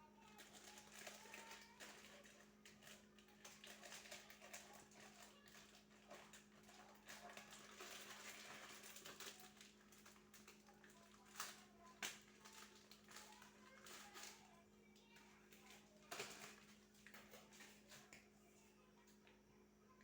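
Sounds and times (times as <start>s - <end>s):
faint clicks and rustles: 0.1s - 20.0s.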